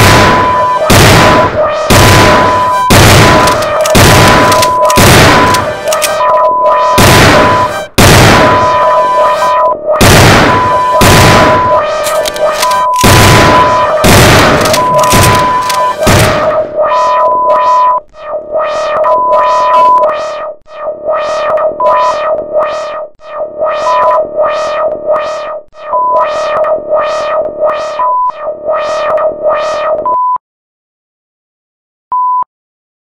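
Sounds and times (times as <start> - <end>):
synthesizer drone: 0.0 - 30.0
high beep tone: 0.0 - 30.4.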